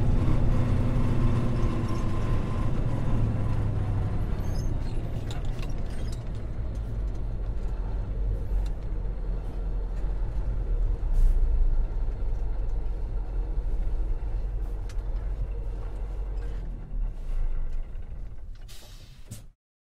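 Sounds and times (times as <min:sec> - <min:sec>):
truck engine rumbling: 0:00.0 - 0:19.5.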